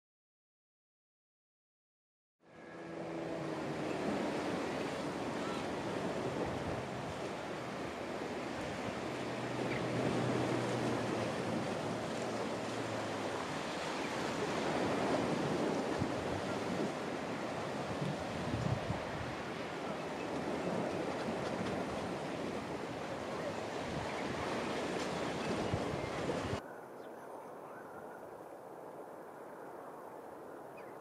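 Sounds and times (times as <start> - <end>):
surf at the shore: 2.4 - 31.0
wind: 2.4 - 31.0.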